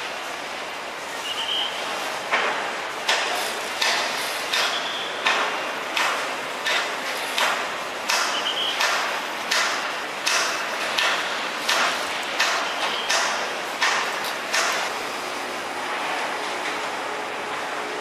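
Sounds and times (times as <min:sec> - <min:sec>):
machine stroke and hiss: 0:01.1 - 0:15.5.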